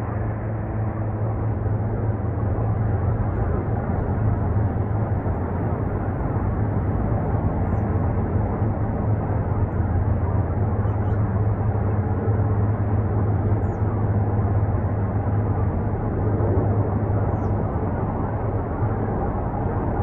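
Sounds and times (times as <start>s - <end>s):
distant helicopters droning: 0.0s - 20.0s.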